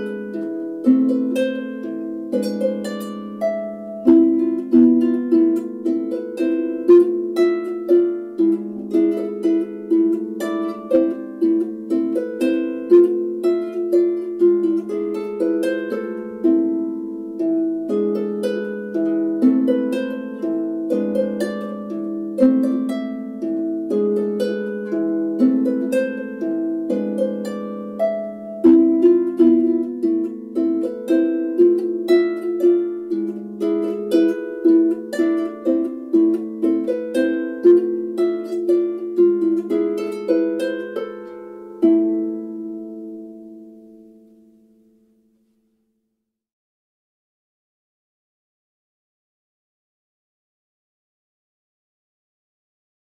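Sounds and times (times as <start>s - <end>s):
harp playing: 0.0s - 45.5s.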